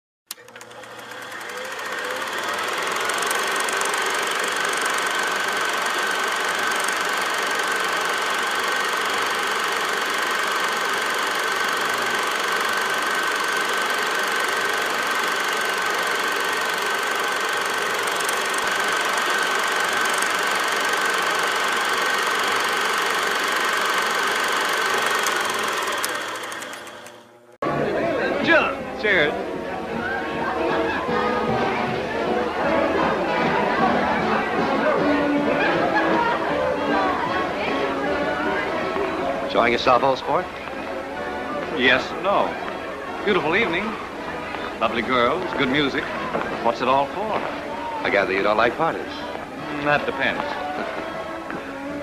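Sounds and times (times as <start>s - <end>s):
film projector whirring and clattering: 0.3s - 27.6s, 32.7s - 52.0s.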